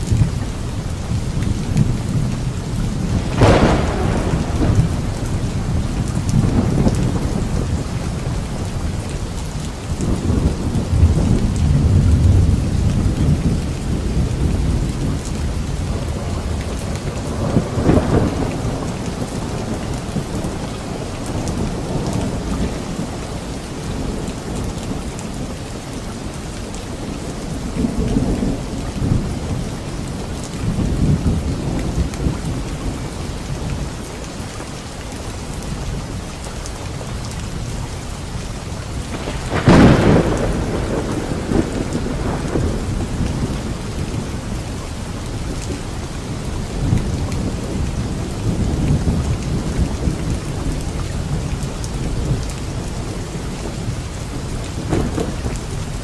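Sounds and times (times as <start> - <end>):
rolling thunder: 0.0 - 25.4, 35.7 - 56.0
steady rain: 0.0 - 56.0.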